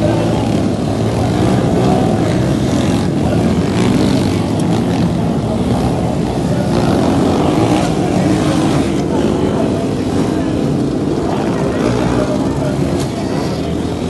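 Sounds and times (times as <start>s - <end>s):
motocross bike engines: 0.0s - 14.0s.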